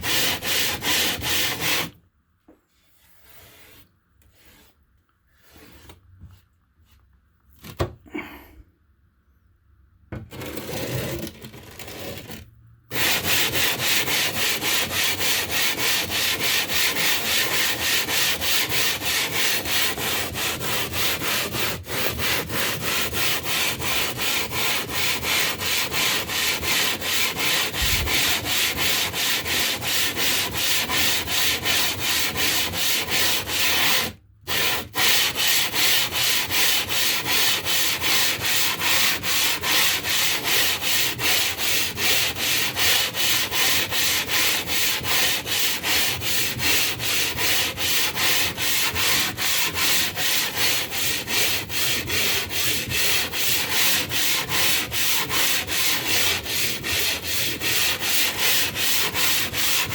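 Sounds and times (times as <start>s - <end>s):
stone scraping back and forth: 2.8s - 6.0s, 10.2s - 59.9s.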